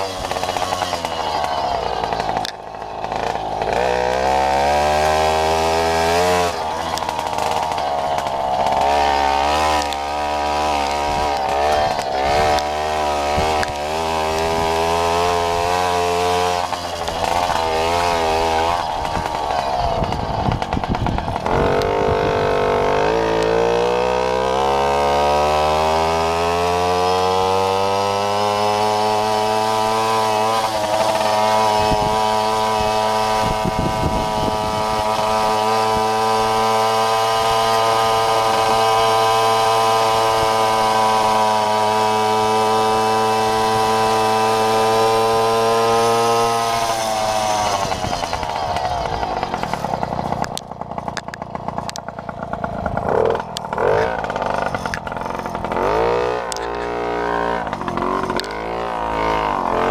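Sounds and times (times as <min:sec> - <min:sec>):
moped engine revving: 0:00.0 - 0:59.9.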